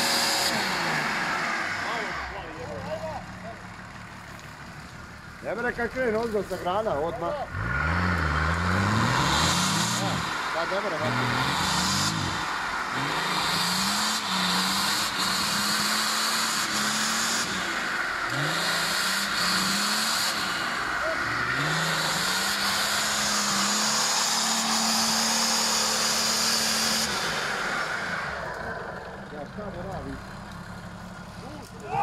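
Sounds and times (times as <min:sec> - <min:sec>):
diesel engine revving under load: 0:00.0 - 0:04.7, 0:06.4 - 0:32.0.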